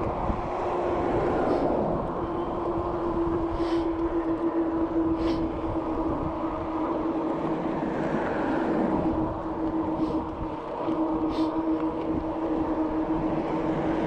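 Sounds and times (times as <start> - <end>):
constant hum: 0.0 - 14.0
tyre and wind rumble: 0.0 - 14.0.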